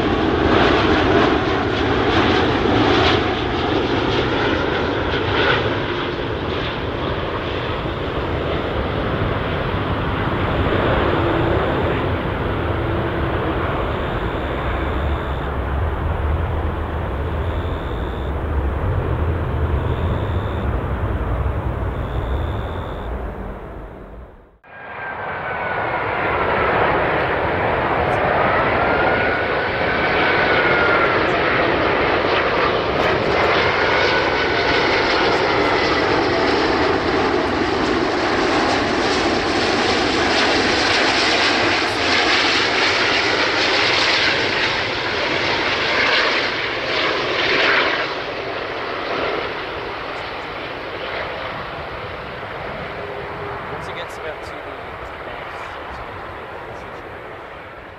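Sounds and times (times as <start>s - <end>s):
airplane approach noise: 0.0s - 57.9s
jet engines whining: 0.0s - 57.9s.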